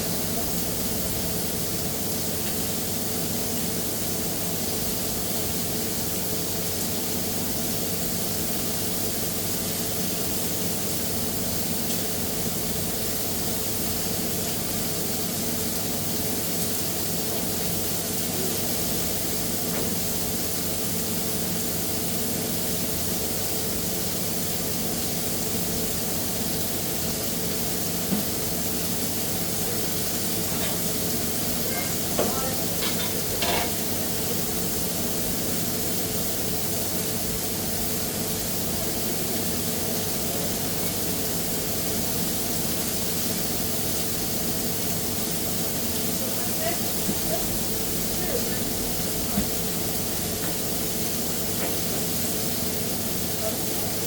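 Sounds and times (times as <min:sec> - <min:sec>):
kitchen equipment humming: 0:00.0 - 0:54.0
steady hiss: 0:00.0 - 0:54.0.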